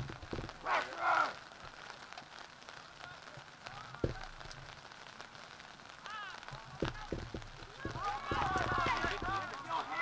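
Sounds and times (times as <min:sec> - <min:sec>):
light even crackle: 0:00.0 - 0:10.0.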